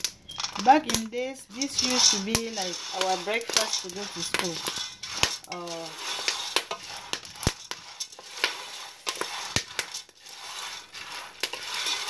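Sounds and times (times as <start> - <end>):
kernels scraping in metal pot: 0.0 - 12.0
sharp clicks of cracking kernels: 0.0 - 12.0.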